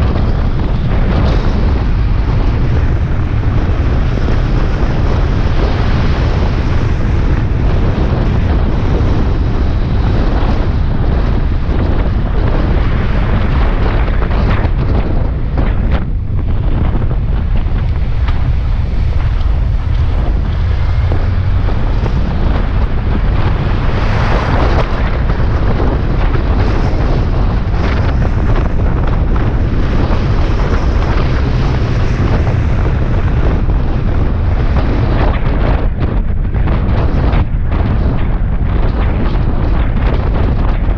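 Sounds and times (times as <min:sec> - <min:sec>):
motorcycle engine rumble: 0:00.0 - 0:40.9
wind buffeting on microphone: 0:00.0 - 0:40.9.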